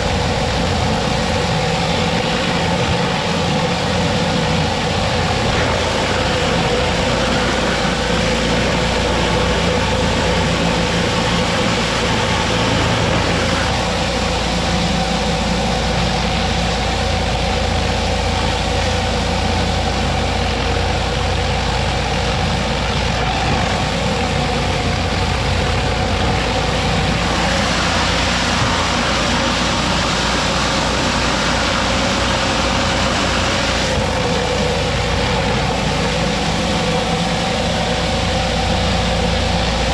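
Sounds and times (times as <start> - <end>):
high-pressure water hissing: 0.0 - 39.9
pressure washer engine running: 0.0 - 39.9.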